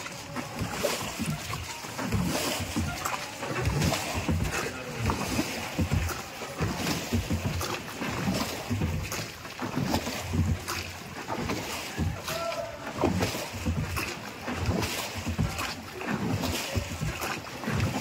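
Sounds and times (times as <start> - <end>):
low rumbling water: 0.0 - 18.0
oars splashing in water: 0.0 - 18.0.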